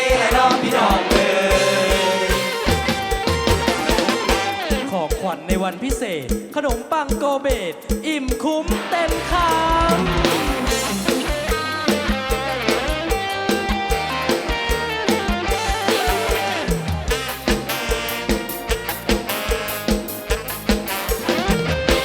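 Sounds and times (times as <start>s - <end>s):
instrumental music with steady beat: 0.0s - 22.0s.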